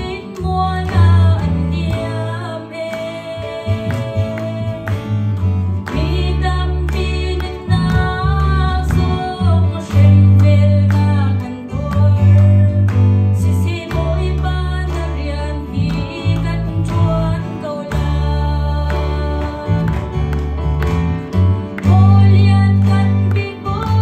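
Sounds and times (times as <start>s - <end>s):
woman singing into microphone: 0.0s - 20.3s, 21.8s - 24.0s
guitar accompaniment: 0.0s - 24.0s
low bass notes: 3.4s - 24.0s.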